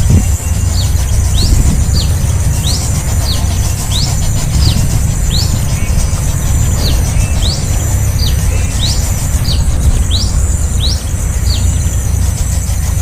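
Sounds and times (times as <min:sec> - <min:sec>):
small bird chirping: 0:00.0 - 0:13.0
steady low rumble: 0:00.0 - 0:13.0.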